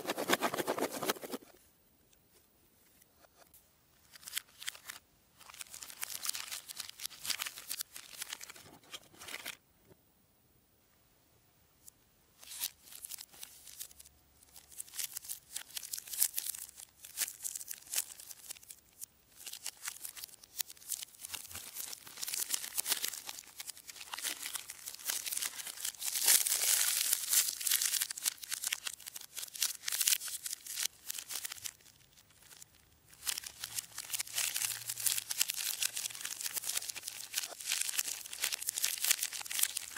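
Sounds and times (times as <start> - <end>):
plastic wrappers crinkling: 4.1 - 9.6, 12.4 - 39.9.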